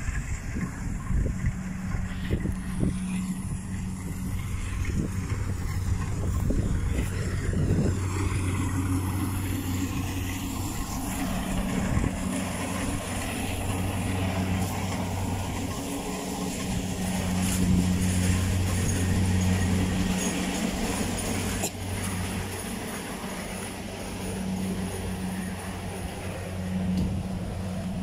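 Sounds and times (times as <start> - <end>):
combine harvester diesel engine drone: 0.0 - 28.0.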